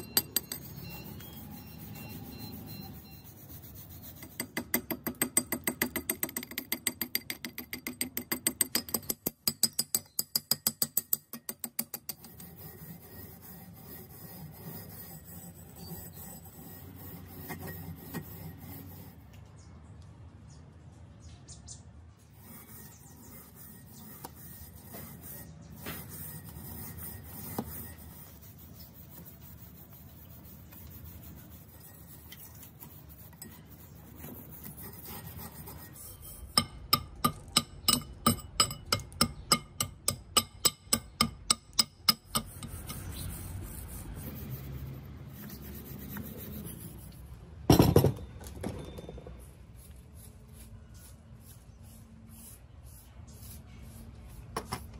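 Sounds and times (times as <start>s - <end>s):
metal scraper rasping rust: 0.0s - 19.2s, 22.3s - 47.2s.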